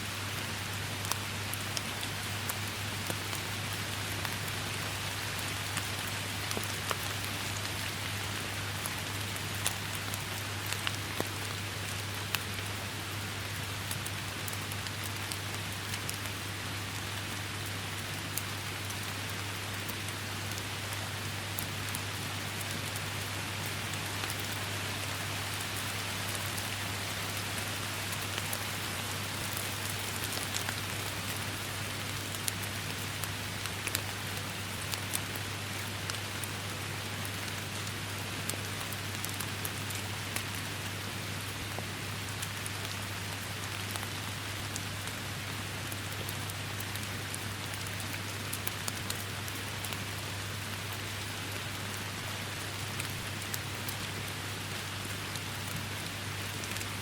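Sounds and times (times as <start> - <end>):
rain: 0.0 - 57.0.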